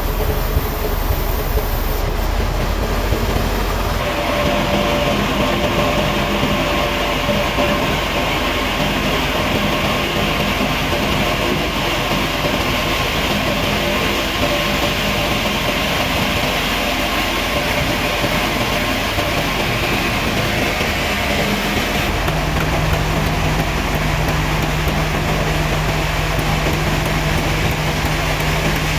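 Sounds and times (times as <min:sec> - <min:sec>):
woodworking machine running: 0:00.0 - 0:28.9.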